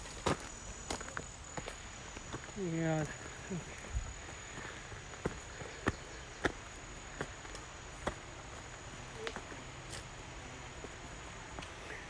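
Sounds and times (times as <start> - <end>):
insects humming: 0.0 - 12.0.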